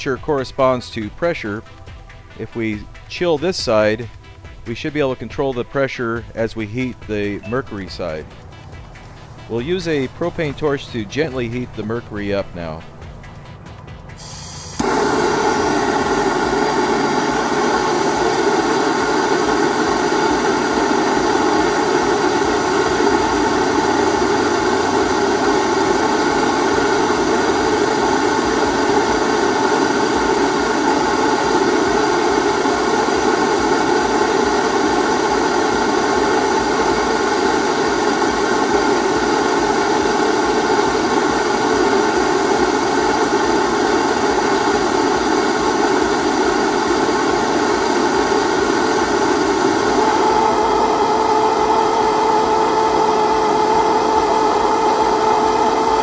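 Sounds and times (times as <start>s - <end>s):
propane torch flame roaring: 8.0s - 56.0s.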